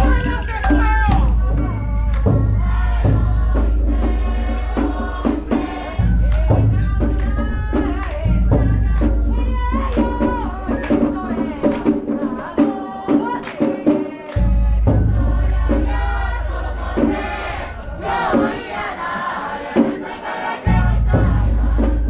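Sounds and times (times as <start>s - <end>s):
deep drum booms: 0.0s - 12.1s, 14.4s - 22.0s
voices chanting together: 0.0s - 22.0s.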